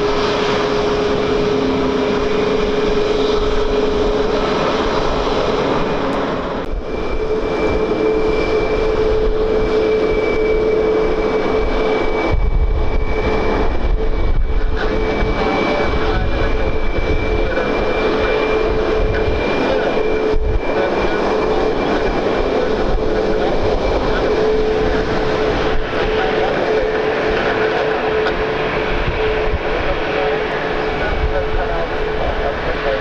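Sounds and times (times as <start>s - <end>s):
aircraft engines whining: 0.0s - 33.0s
wind rumbling on microphone: 0.0s - 33.0s.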